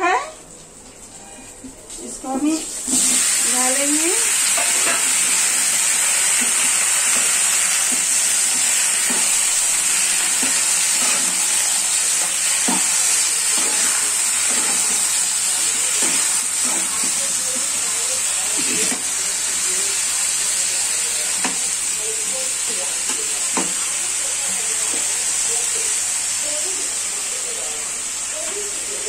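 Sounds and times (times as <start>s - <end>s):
pumpkin sizzling in oil: 1.0s - 29.0s.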